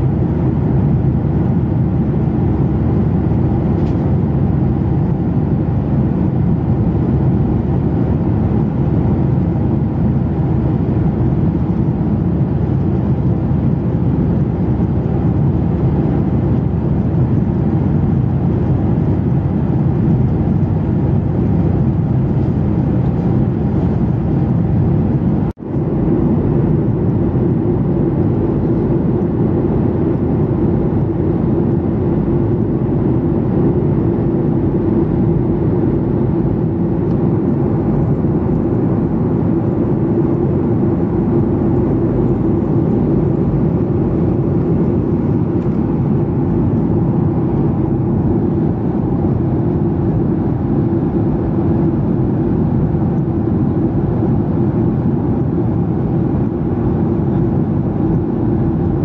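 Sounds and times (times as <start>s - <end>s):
airflow and jet engine rush: 0.0s - 59.0s
steady low hum: 0.0s - 59.0s.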